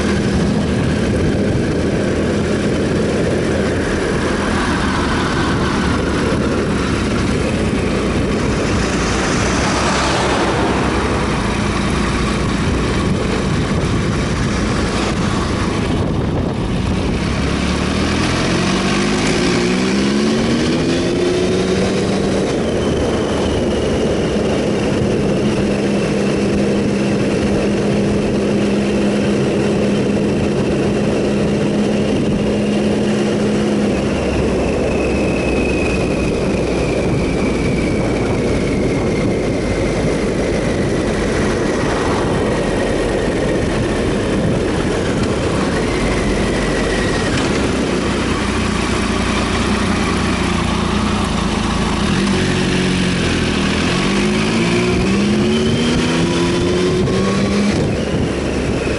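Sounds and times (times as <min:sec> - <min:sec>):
motorcycle engine: 0:00.0 - 0:58.9
wind rush: 0:00.0 - 0:58.9.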